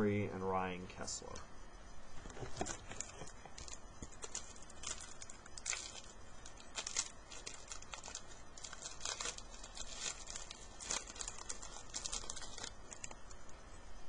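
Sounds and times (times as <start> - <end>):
wrapper crinkling and tearing: 2.2 - 13.5.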